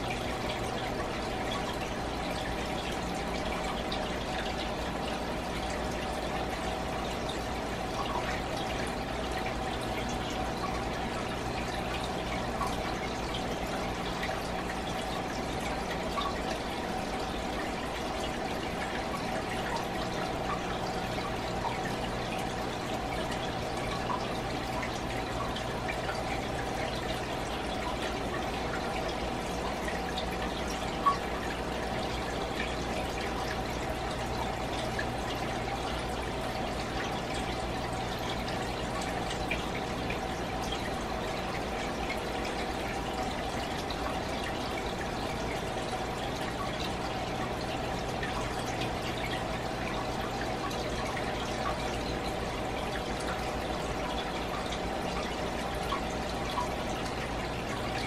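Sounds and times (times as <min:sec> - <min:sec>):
aquarium water trickling: 0:00.0 - 0:58.0
low steady hum: 0:00.0 - 0:58.0.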